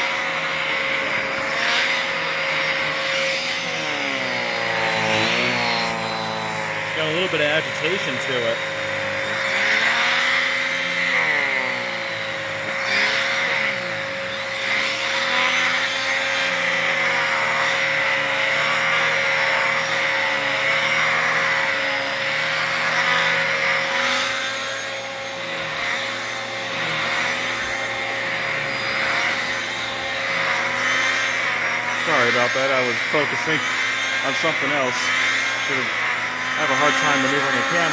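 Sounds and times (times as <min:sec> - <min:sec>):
brush whirring: 0:00.0 - 0:37.9
vacuum cleaner motor whine: 0:00.0 - 0:37.9.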